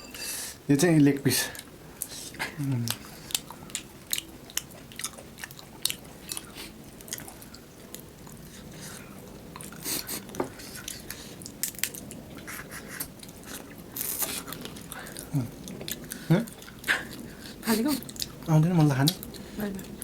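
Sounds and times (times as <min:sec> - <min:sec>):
chewing: 0:01.5 - 0:20.0.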